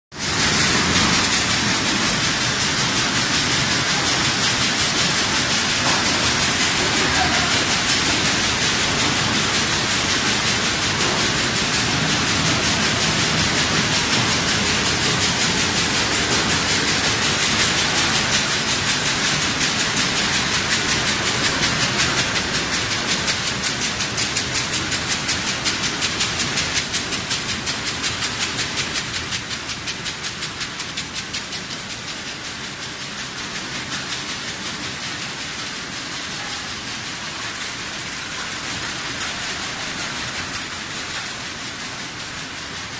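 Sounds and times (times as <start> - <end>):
machinery hissing and clattering: 0.1 - 42.9.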